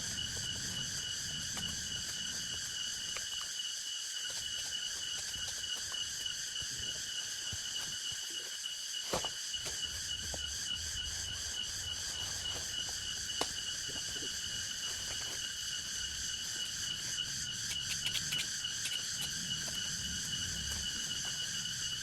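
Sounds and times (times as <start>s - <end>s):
insects buzzing drone: 0.0s - 22.0s.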